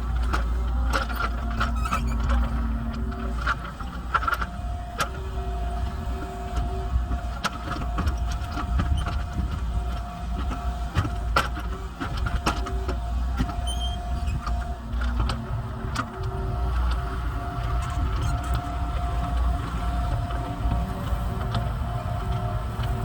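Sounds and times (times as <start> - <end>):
excavator diesel engine under load: 0.0 - 23.0.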